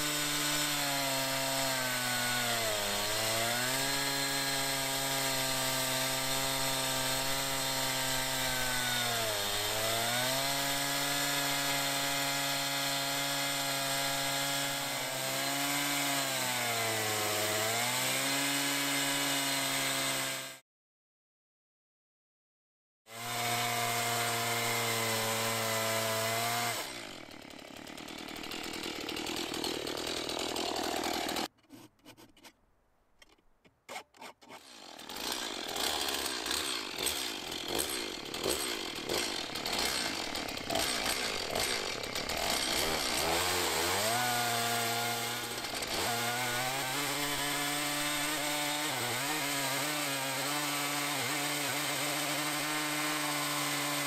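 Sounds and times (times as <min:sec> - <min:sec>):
chainsaw ripping a log: 0:00.0 - 0:20.6, 0:23.2 - 0:31.6, 0:33.9 - 0:54.0.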